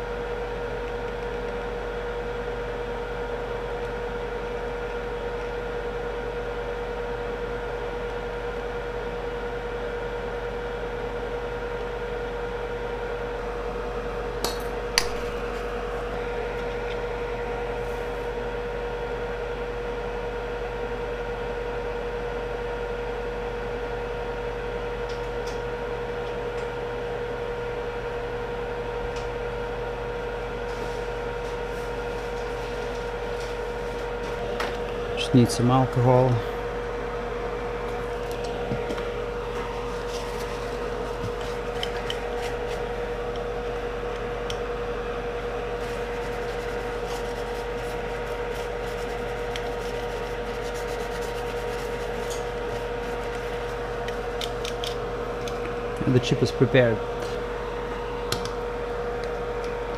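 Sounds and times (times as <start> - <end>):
electrical hum with thin whine: 0.0 - 59.9.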